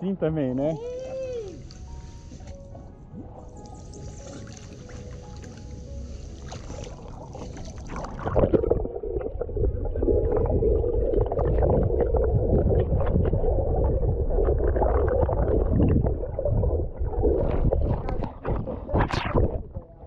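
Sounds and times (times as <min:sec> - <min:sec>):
underwater churning and bubbling: 0:00.4 - 0:20.0.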